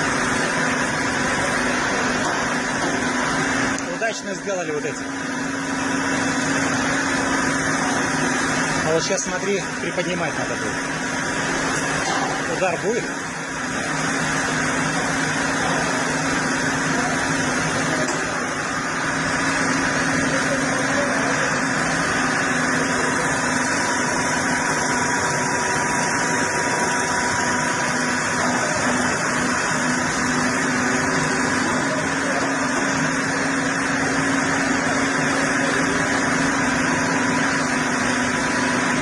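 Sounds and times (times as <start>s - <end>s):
heavy machinery engine running: 0.0s - 39.0s.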